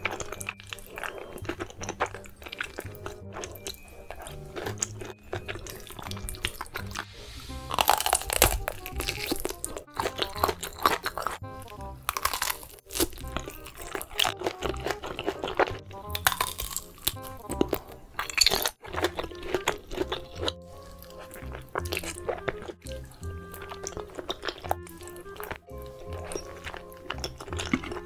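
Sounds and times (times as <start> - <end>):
background music: 0.0 - 28.0
sausage skin crunching bites: 0.0 - 28.0.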